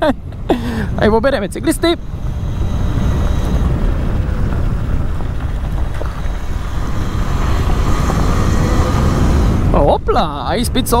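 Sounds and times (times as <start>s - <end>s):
faint steady whine: 0.0s - 11.0s
wind buffeting microphone: 0.0s - 11.0s.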